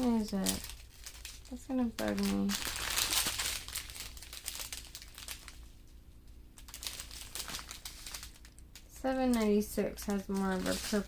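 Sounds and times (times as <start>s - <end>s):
plastic bags crinkling: 0.0s - 5.9s, 6.5s - 11.0s.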